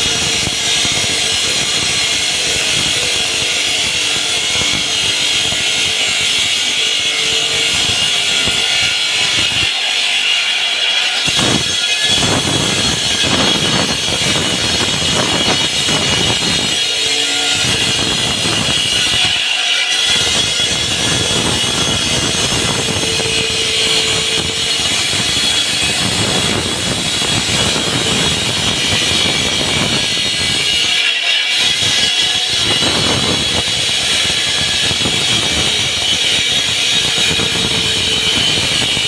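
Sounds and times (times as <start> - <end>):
concrete saw grinding: 0.0 - 39.0.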